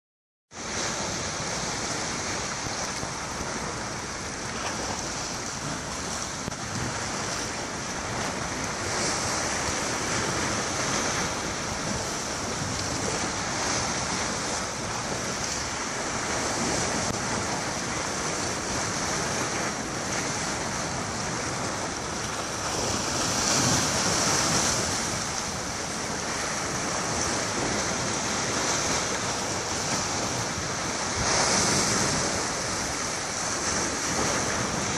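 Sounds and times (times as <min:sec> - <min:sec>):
wind blowing across microphone: 0:00.5 - 0:34.9
waves washing against rocks: 0:00.6 - 0:34.9.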